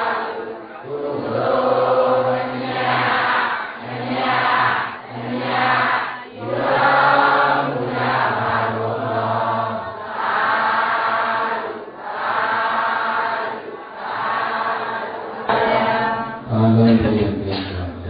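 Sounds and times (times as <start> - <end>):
several voices chanting: 0.0 - 17.0.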